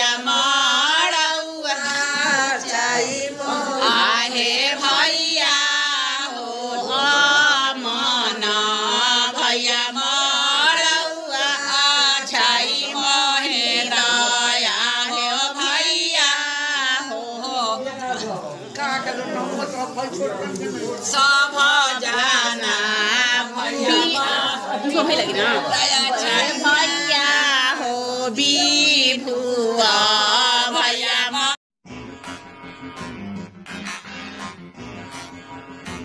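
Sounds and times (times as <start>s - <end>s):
voices singing a chant-like song: 0.0s - 31.6s.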